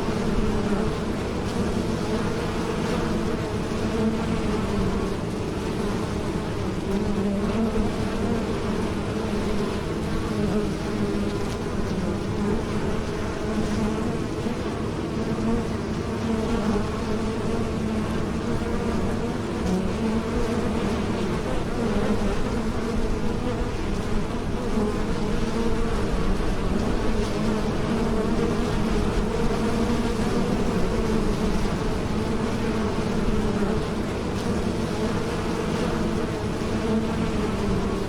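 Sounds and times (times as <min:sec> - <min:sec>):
bees buzzing in flight: 0:00.0 - 0:38.0.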